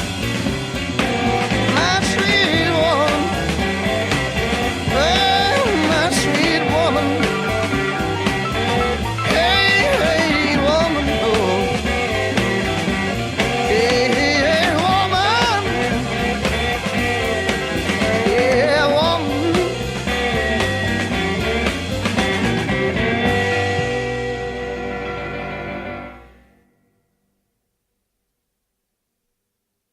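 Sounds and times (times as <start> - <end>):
steady drum beat: 0.0 - 25.1
bending lead guitar line: 0.0 - 26.5
bass: 0.0 - 27.5.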